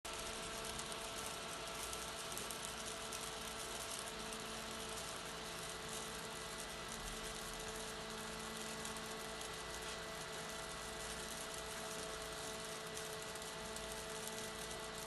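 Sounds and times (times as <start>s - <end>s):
electric fan whooshing: 0.1s - 15.0s
fan motor hum: 0.1s - 15.0s.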